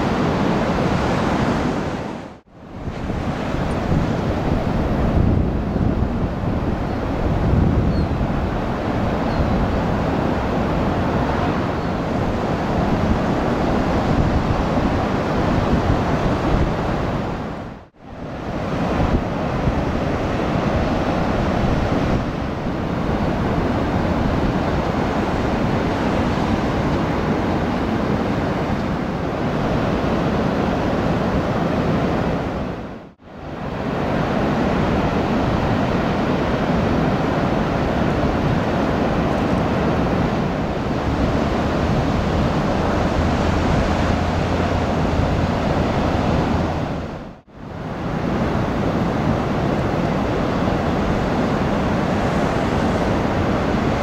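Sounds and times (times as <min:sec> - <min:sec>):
ocean waves breaking: 0:00.0 - 0:54.0
wind rumbling on microphone: 0:00.0 - 0:54.0.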